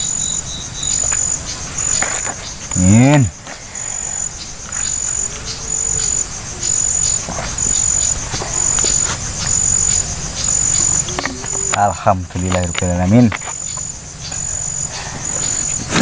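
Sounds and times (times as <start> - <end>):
insect trilling: 0.0 - 16.0.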